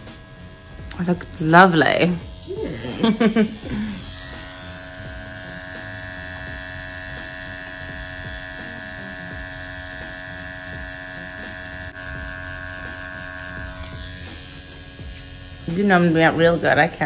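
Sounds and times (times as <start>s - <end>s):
tattoo pen electric hum: 0.0s - 17.0s.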